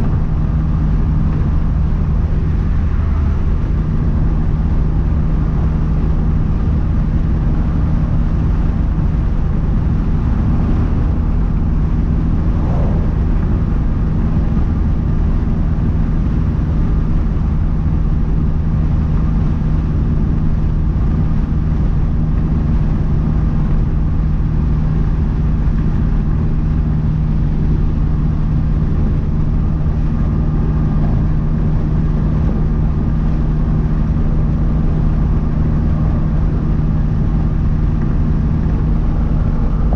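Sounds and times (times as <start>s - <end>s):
car engine steady drone: 0.0s - 39.9s
road noise: 0.0s - 39.9s.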